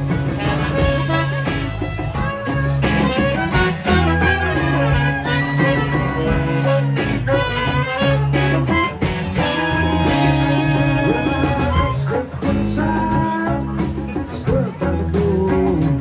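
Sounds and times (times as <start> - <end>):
swing jazz band playing: 0.0 - 16.0.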